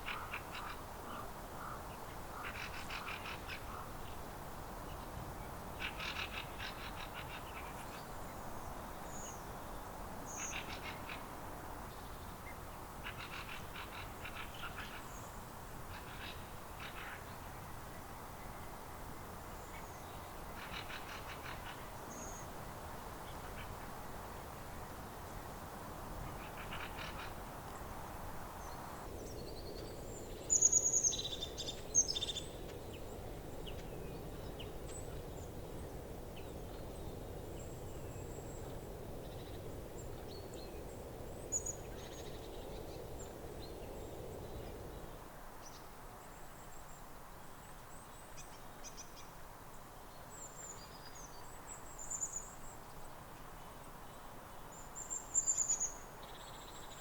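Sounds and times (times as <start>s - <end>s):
low background noise: 0.0s - 57.0s.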